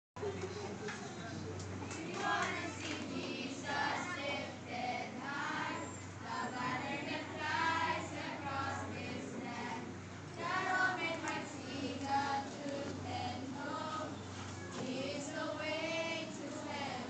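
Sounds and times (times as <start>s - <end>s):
children's choir singing: 1.9s - 14.2s, 14.8s - 17.0s.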